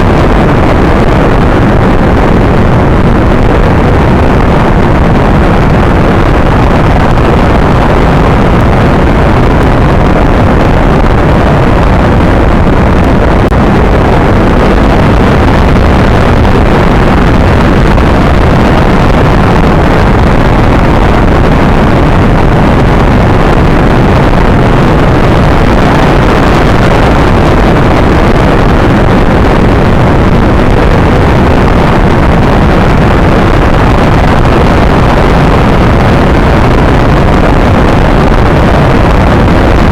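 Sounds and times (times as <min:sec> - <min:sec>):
rocket engine roar: 0:00.0 - 0:39.9.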